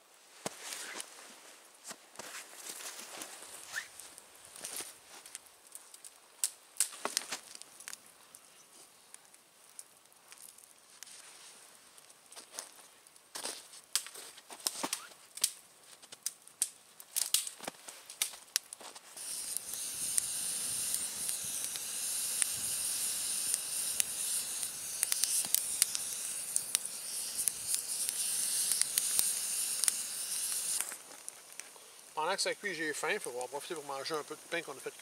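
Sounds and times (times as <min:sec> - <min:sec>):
steady high hiss: 0:00.0 - 0:35.0
wood fire crackling: 0:00.3 - 0:35.0.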